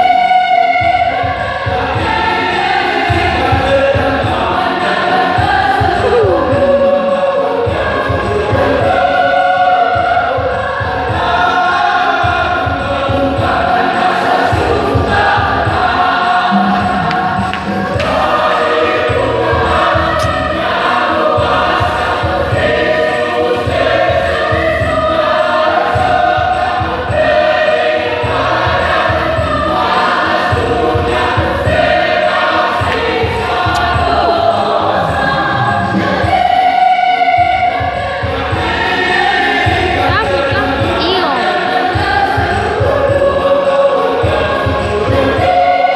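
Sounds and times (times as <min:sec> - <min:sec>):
choir singing: 0:00.0 - 0:45.9
low rhythmic pulse: 0:05.2 - 0:13.7, 0:14.4 - 0:36.6, 0:37.4 - 0:45.8.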